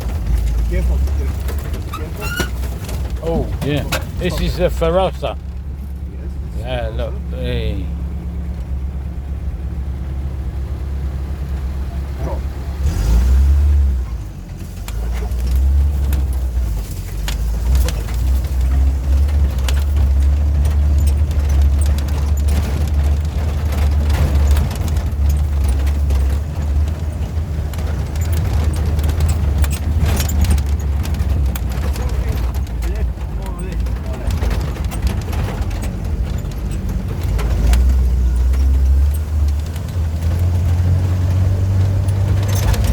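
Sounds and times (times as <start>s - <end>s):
knocks and rattles: 0.0s - 6.1s, 14.5s - 42.9s
off-road vehicle engine droning: 0.0s - 42.9s.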